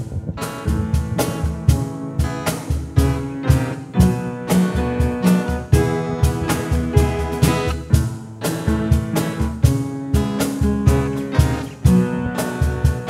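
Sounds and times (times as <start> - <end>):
drum kit beat: 0.0 - 13.0
worship band playing a hymn: 0.0 - 13.0.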